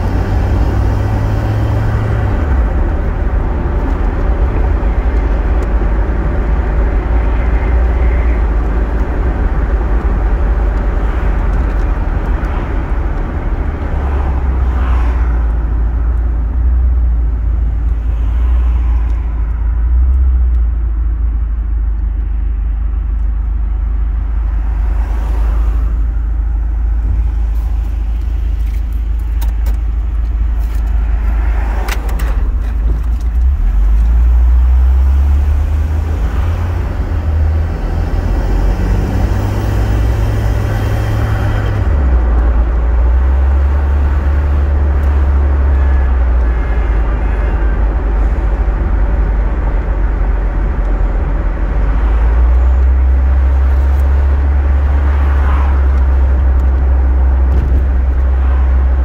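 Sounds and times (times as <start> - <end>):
car engine: 0.0 - 59.0
road noise: 0.0 - 59.0.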